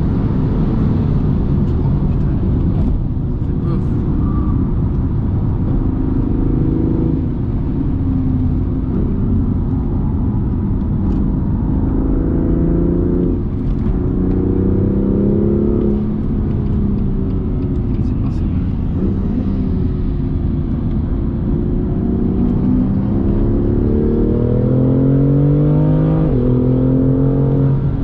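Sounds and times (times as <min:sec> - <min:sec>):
car engine revving: 0:00.0 - 0:28.0
road and tyre rumble: 0:00.0 - 0:28.0.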